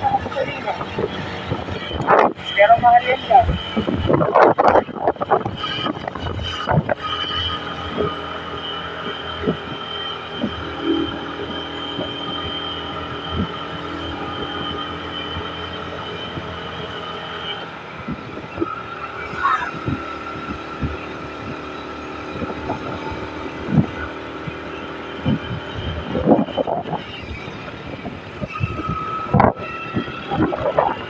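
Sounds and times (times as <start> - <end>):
high whine: 0.0 - 31.0
road and engine noise: 0.0 - 31.0.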